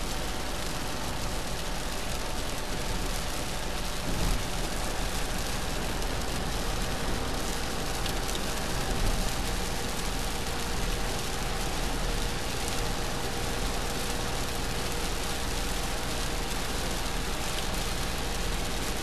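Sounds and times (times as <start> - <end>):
rain hitting car windshield: 0.2 - 19.0.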